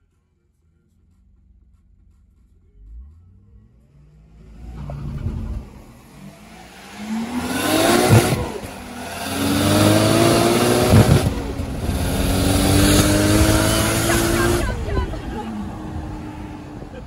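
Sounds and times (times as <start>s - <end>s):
car engine revving hard: 3.0s - 17.0s.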